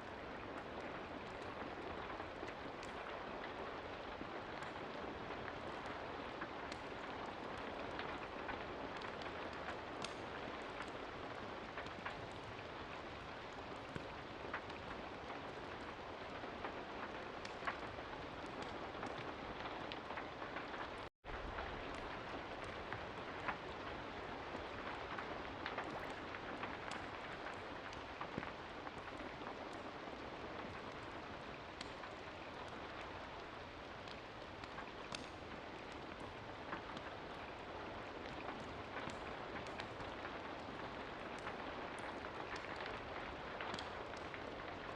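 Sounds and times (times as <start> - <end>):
rain pattering: 0.0 - 44.9
sharp ticks and crackles: 0.4 - 44.9.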